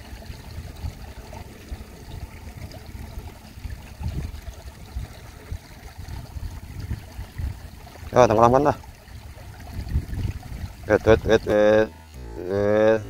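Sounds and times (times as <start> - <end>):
wind rumble on microphone: 0.0 - 12.3
flowing water hiss: 0.0 - 13.0.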